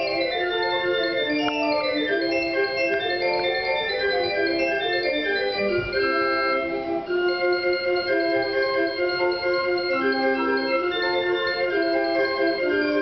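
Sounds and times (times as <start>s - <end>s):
organ playing: 0.0s - 13.0s.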